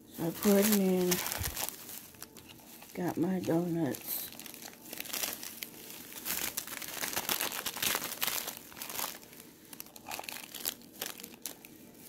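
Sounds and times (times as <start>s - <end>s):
plastic wrapping crinkling: 0.1s - 12.0s.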